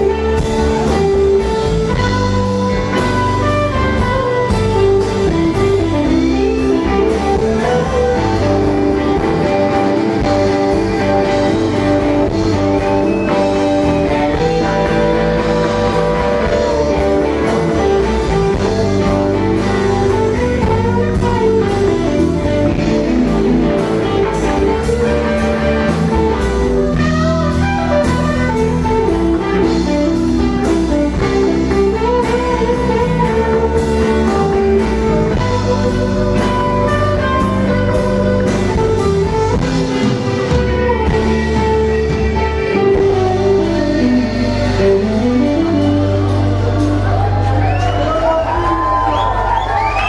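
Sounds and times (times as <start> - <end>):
drums with cymbal beat: 0.0 - 48.2
bass guitar: 0.0 - 50.0
electric guitar bending notes: 0.0 - 50.0.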